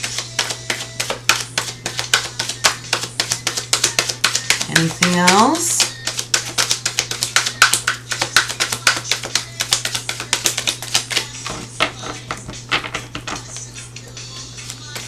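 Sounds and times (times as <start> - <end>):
cards being shuffled: 0.0 - 15.0
soft background music: 0.0 - 15.0.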